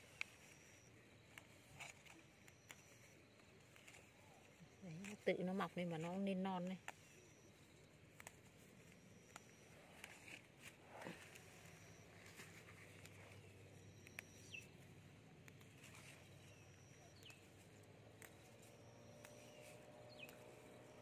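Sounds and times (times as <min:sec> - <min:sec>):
plant shoots rustling and snapping: 0:01.2 - 0:07.0, 0:08.0 - 0:17.5, 0:18.1 - 0:20.8.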